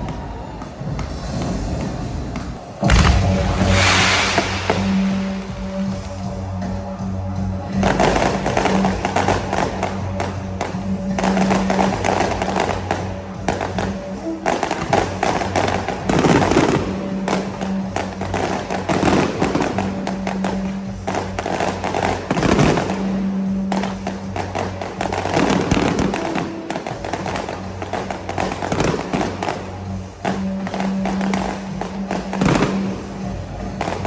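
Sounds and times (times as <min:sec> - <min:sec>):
fireworks bangs and crackling: 0:00.0 - 0:34.0
music playing: 0:00.0 - 0:34.0.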